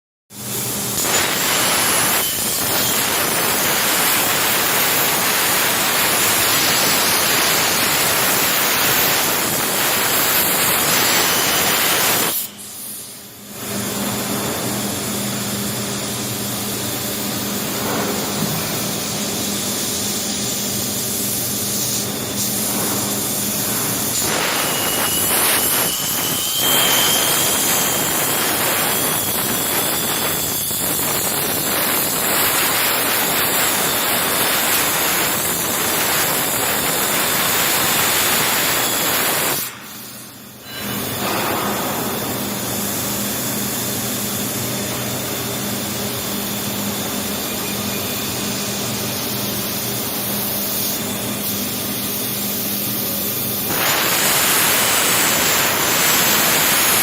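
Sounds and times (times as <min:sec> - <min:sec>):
plasma cutting torch hissing: 0:00.4 - 0:57.0.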